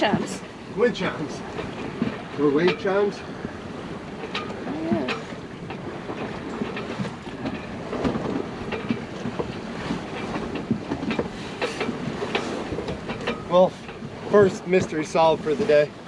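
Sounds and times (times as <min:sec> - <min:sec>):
wind and water wash: 0:00.0 - 0:16.0.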